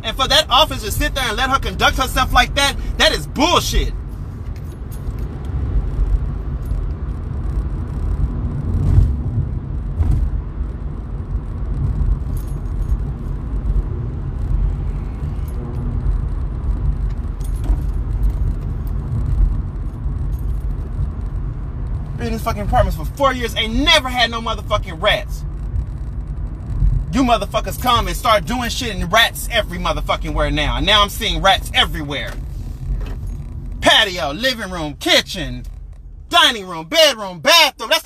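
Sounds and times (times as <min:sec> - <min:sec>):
road and engine rumble: 0:00.0 - 0:38.0.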